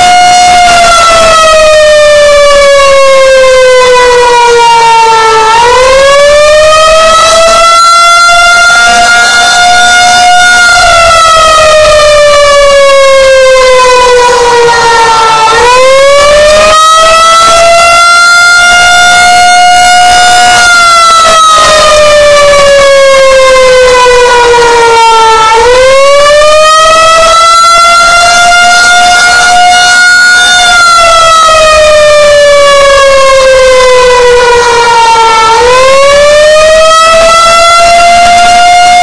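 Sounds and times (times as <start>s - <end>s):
rotating warning siren: 0.0s - 39.0s.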